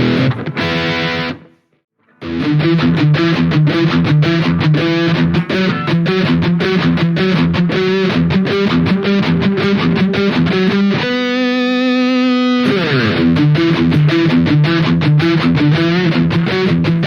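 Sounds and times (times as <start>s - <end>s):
distorted electric guitar riff: 0.0s - 17.0s.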